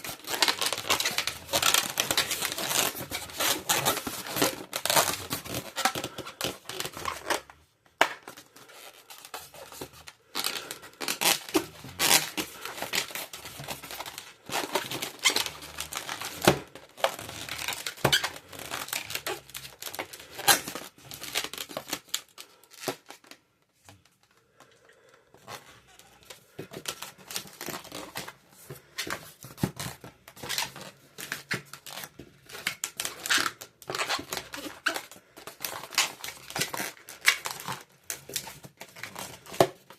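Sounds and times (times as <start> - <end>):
balloons rubbing and crinkling: 0.0 - 39.9.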